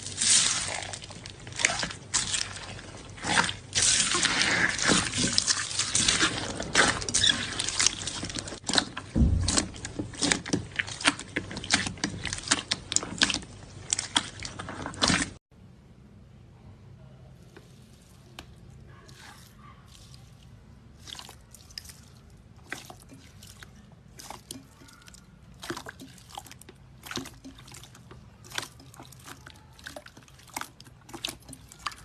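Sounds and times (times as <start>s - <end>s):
slime squishing: 0.0s - 15.4s, 17.4s - 32.0s.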